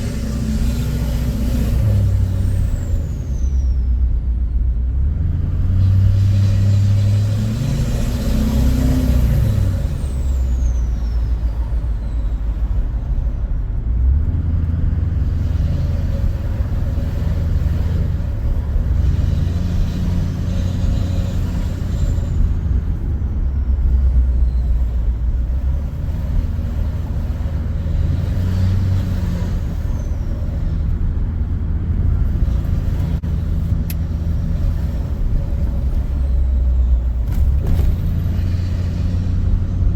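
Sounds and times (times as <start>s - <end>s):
pickup diesel engine driving: 0.0s - 39.9s.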